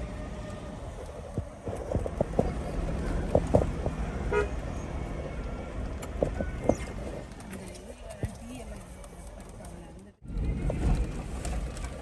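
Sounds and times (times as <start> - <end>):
vehicle rumbling on rough road: 0.0 - 12.0.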